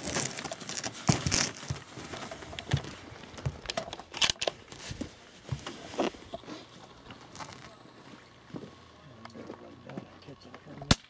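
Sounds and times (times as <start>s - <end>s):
rustling and crinkling handling: 0.0s - 10.8s.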